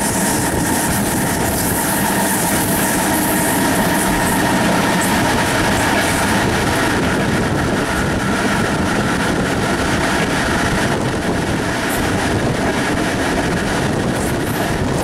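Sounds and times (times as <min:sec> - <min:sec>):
locomotive wheels rolling on rail: 0:00.0 - 0:15.0.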